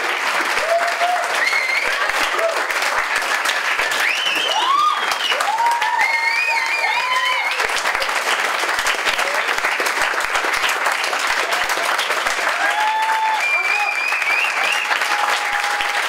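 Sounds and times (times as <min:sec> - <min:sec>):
audience clapping: 0:00.0 - 0:16.0.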